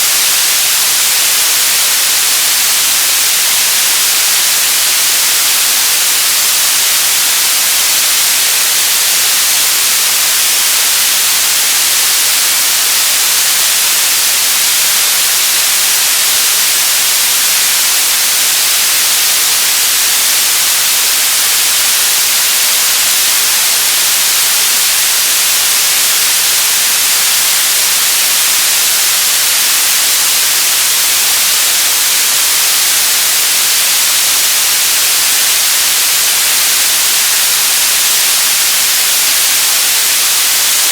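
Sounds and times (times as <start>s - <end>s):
television static hiss: 0.0s - 40.9s.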